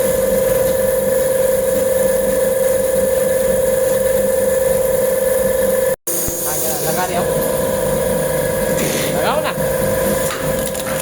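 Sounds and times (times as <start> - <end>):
machine running with steady hum: 0.0 - 11.0.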